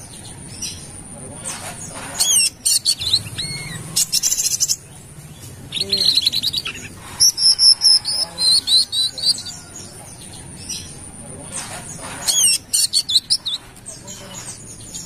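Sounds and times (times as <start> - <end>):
bird chirping and trilling: 0.0 - 15.0.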